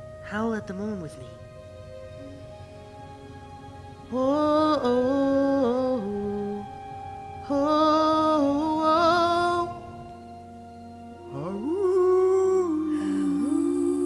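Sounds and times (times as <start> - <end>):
person singing wordless melody: 0.0 - 14.0
soft sustained musical backing: 0.0 - 14.0.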